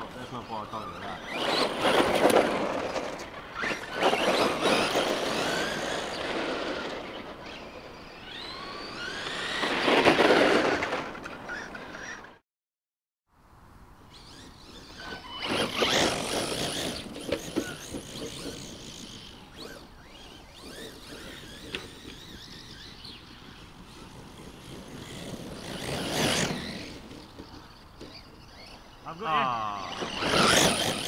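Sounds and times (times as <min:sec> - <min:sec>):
rc truck electric motor whining: 0:00.0 - 0:12.4, 0:14.1 - 0:31.0.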